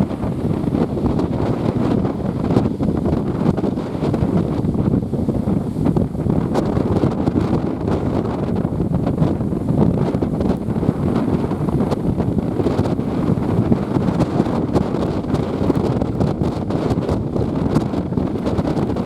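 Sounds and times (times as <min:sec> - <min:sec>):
heavy surf: 0:00.0 - 0:19.0
wind buffeting microphone: 0:00.0 - 0:19.0.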